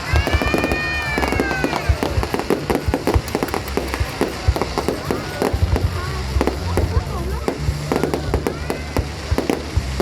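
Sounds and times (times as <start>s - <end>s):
fireworks bangs and crackles: 0.0s - 10.0s
low rumble: 0.0s - 10.0s.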